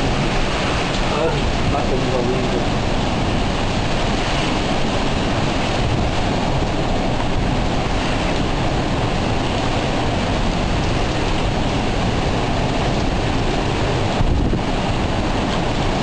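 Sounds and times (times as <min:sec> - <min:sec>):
driving rain: 0:00.0 - 0:16.0
hurricane-force wind: 0:00.0 - 0:16.0
wind buffeting microphone: 0:00.0 - 0:16.0.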